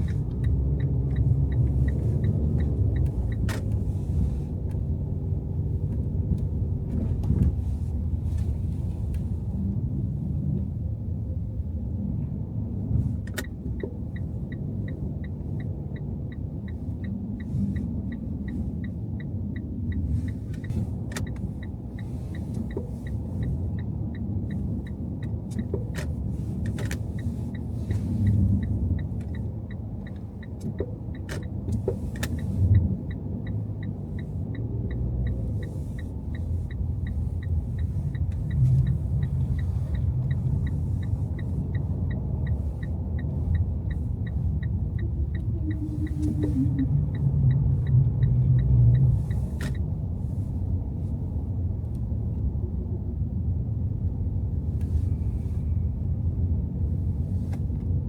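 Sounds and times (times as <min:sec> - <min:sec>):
car road rumble: 0:00.0 - 0:58.0
turn signal ticking: 0:00.0 - 0:58.0.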